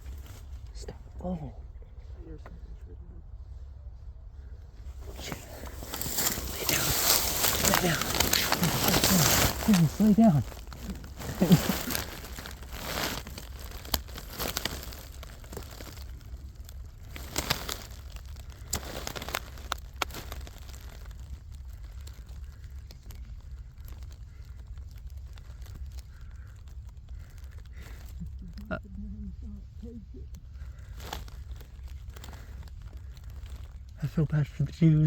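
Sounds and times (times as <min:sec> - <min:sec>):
clothing rustling and crinkling: 0:00.0 - 0:00.9, 0:04.4 - 0:28.7, 0:29.3 - 0:35.0
steady low rumble: 0:00.0 - 0:35.0.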